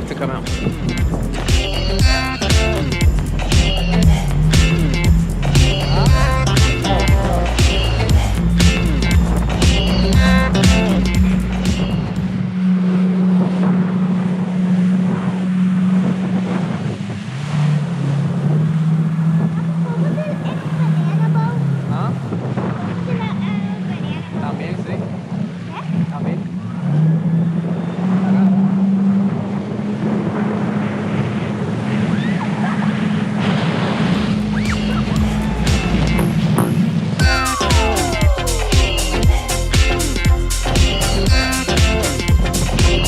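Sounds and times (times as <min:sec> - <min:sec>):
wind buffeting microphone: 0:00.0 - 0:37.2
jet ski engine running: 0:00.0 - 0:43.0
water noise: 0:00.0 - 0:43.0.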